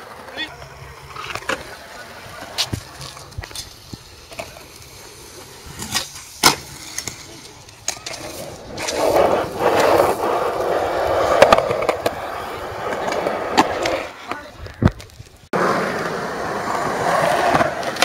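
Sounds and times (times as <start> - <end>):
skateboard wheels rolling on concrete: 0.0 - 18.0.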